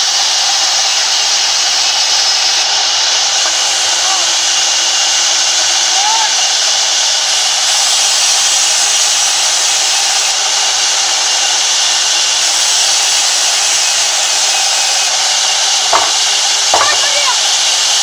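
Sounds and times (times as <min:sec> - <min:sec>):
band saw cutting timber: 0:00.0 - 0:18.0.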